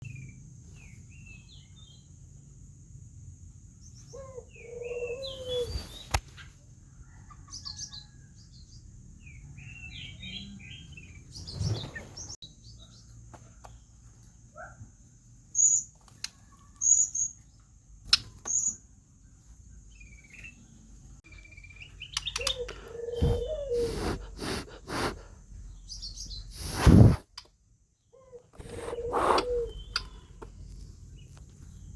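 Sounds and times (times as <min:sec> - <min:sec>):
bird chirping and twittering: 0:00.0 - 0:02.1, 0:03.8 - 0:06.5, 0:07.4 - 0:14.0, 0:15.5 - 0:27.2, 0:28.0 - 0:31.9.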